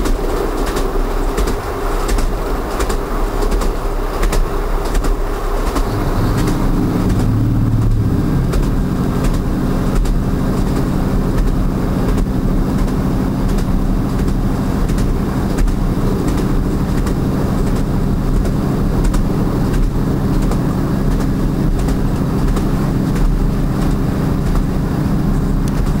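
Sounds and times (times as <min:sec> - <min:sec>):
train rumbling on track: 0:00.0 - 0:26.0
wheels clicking over rail joints: 0:00.0 - 0:26.0.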